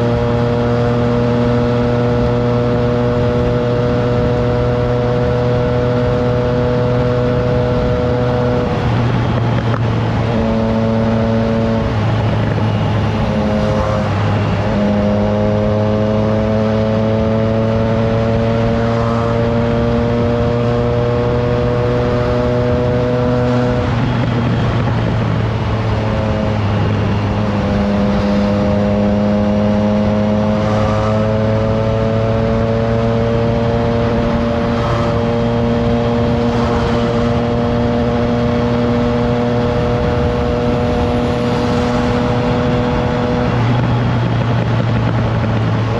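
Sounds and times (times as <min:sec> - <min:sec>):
motorcycle engine revving: 0:00.0 - 0:45.9
wind noise: 0:00.0 - 0:45.9.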